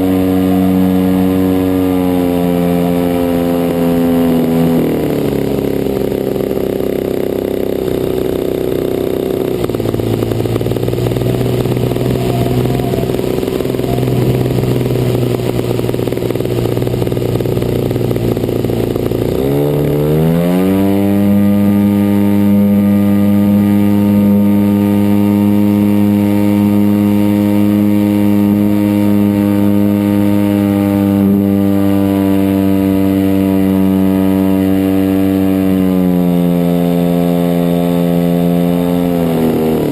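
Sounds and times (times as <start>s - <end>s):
model plane engine revving: 0.0s - 39.9s.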